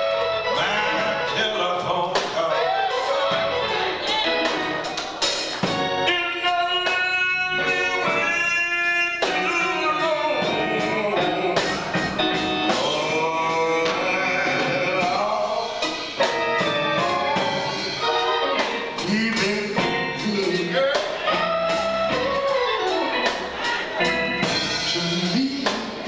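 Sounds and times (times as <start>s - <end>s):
man singing gospel: 0.0s - 3.1s, 5.9s - 22.9s, 23.6s - 26.0s
instrumental accompaniment: 0.0s - 26.0s.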